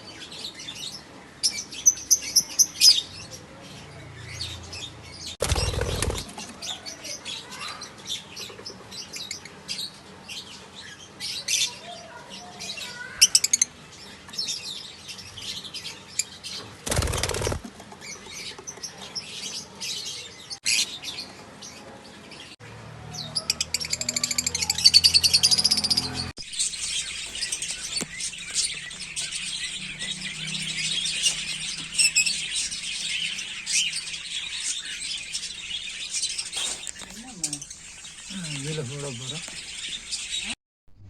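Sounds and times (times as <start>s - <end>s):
birds chirping and chattering: 0.0s - 40.6s.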